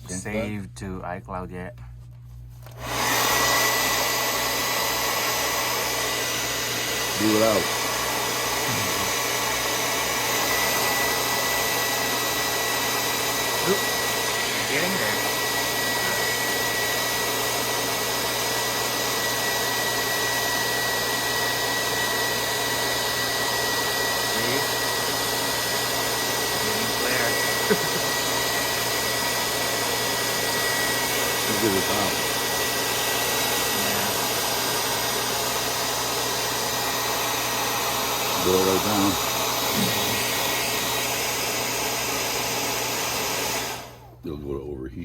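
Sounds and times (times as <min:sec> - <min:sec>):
electric blower running: 0:02.6 - 0:44.3.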